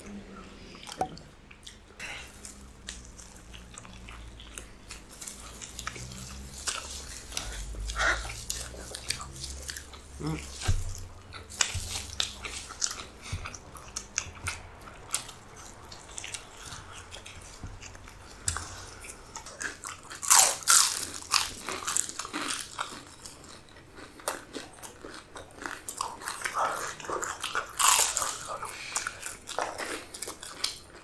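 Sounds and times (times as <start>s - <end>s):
chewing with crunches: 0.0s - 31.0s.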